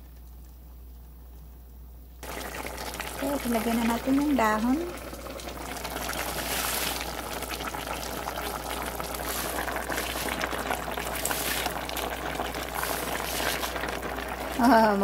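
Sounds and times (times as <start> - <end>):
broth boiling in a pot: 2.2 - 15.0.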